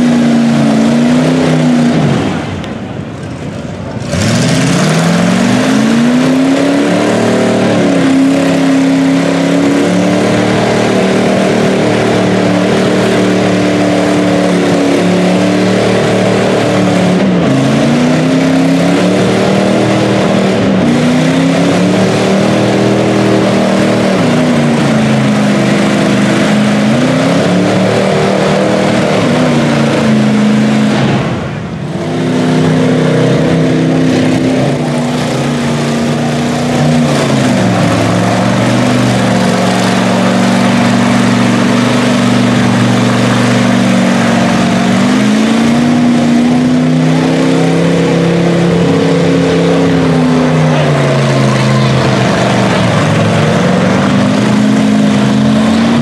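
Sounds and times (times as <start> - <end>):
tires throwing mud: 0.0 - 56.0
truck engine revving: 0.0 - 56.0.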